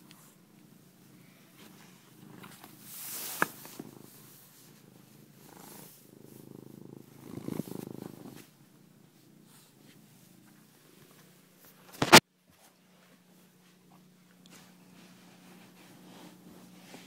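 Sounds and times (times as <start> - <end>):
cat purring: 0.0 - 11.7, 13.8 - 17.0.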